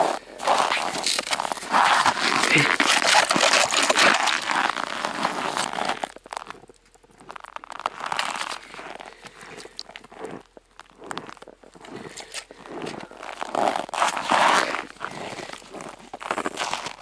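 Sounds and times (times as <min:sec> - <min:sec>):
snow and ice crunching: 0:00.0 - 0:17.0.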